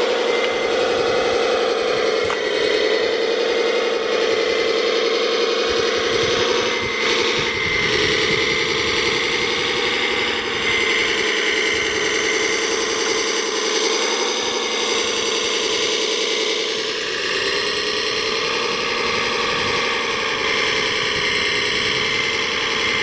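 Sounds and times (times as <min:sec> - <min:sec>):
electric motors whining: 0:00.0 - 0:23.0.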